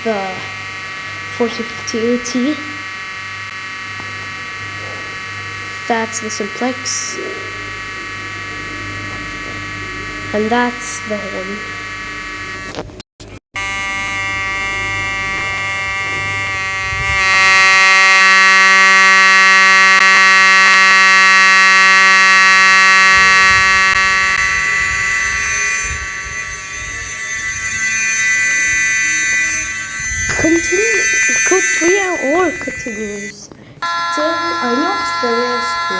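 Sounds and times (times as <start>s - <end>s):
fire alarm horn buzzing: 0.0s - 12.8s, 13.6s - 35.9s.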